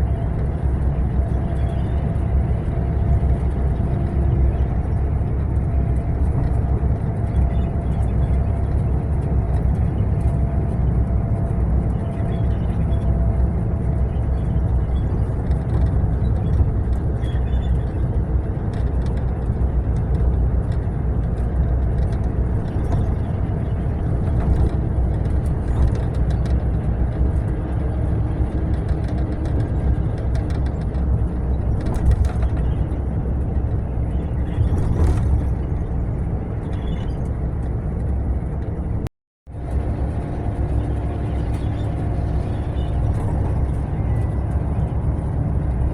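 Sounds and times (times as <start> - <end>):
coach engine and road rumble: 0.0 - 45.9.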